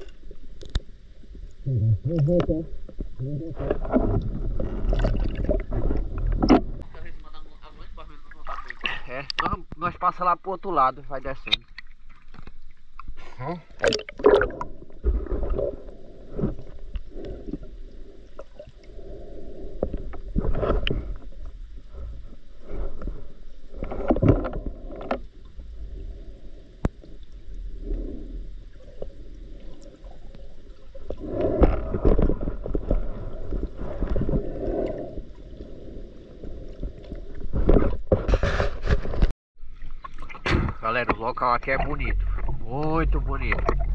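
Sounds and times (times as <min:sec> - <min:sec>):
underwater water sloshing: 0:00.0 - 0:10.1, 0:11.1 - 0:43.9.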